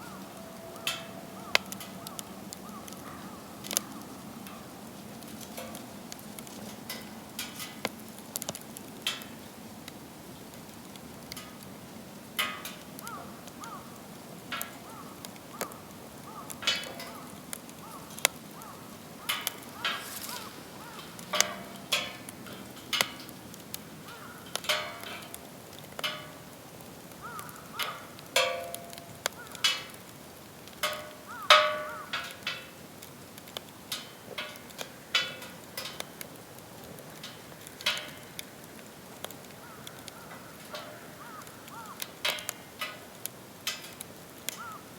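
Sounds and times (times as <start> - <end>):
low steady hiss: 0.0 - 44.9
wood fire crackling and popping: 0.0 - 44.9.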